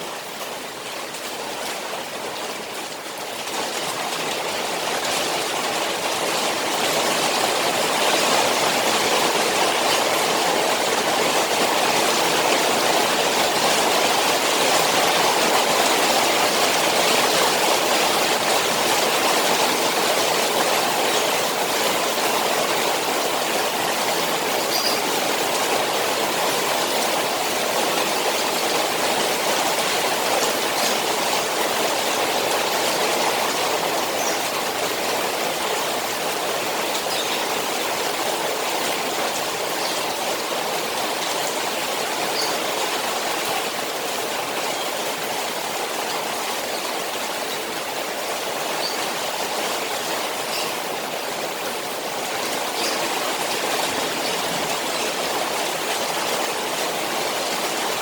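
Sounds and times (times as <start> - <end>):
rain falling on pond water: 0.0 - 58.0.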